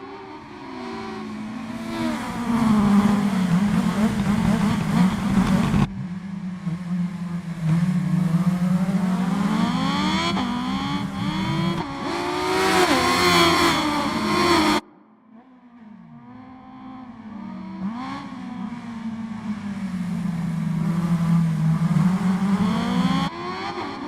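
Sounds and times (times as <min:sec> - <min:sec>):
motorcycle engine revving: 0:00.0 - 0:14.8, 0:16.1 - 0:24.0.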